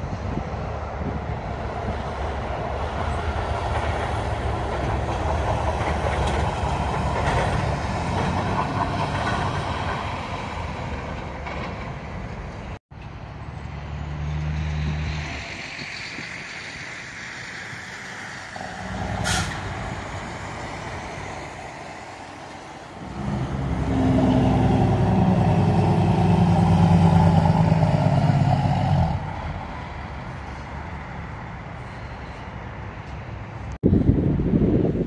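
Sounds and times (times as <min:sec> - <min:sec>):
semi trucks passing: 0:00.0 - 0:35.0.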